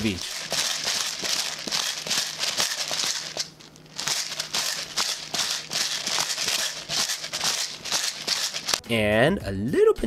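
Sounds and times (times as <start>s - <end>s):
shaker rattling: 0.0s - 8.8s.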